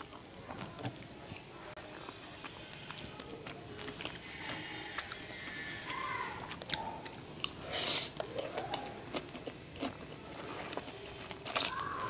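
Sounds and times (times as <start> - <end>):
chewing with mouth clicks: 1.8 - 12.0.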